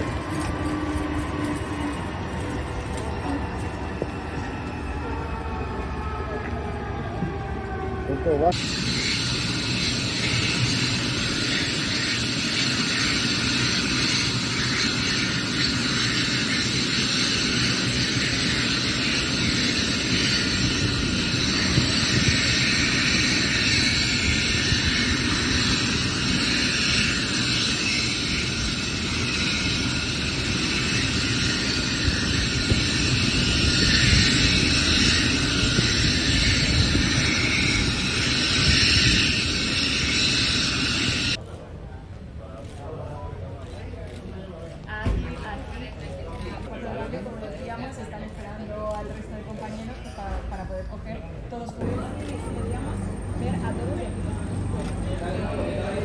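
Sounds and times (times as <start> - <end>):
helicopter turbine engines whining: 0.0 - 56.0.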